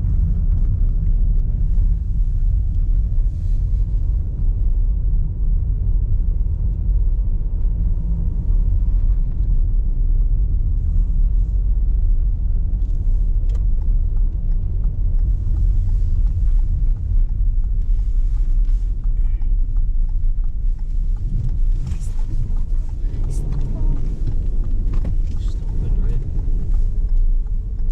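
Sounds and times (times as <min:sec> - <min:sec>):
car engine and tyre rumble: 0:00.0 - 0:27.9.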